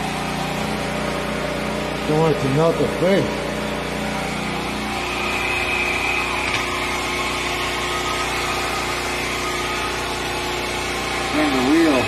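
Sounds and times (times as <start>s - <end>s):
hot-air blower with fan whine: 0.0s - 12.0s.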